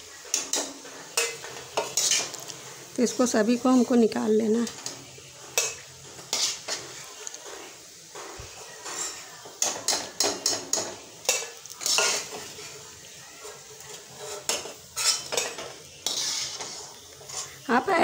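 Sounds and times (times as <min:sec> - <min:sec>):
oil sizzling: 0:00.0 - 0:18.0
skimmer scraping an iron pan: 0:00.8 - 0:03.9, 0:05.6 - 0:10.6, 0:11.3 - 0:17.8.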